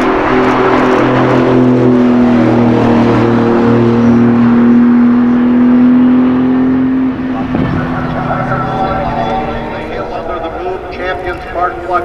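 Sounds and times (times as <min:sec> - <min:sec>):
sports car engine revving high: 0:00.0 - 0:10.6.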